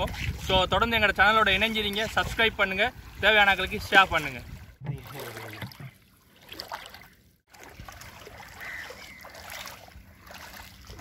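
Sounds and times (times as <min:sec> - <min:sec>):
water trickling and sloshing: 0:00.0 - 0:11.0.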